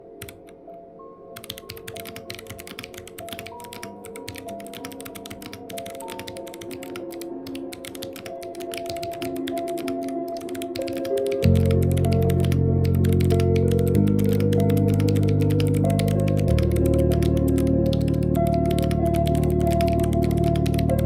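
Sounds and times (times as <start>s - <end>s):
background music: 0.0s - 21.0s
mechanical keyboard typing: 0.2s - 0.6s, 1.4s - 21.0s.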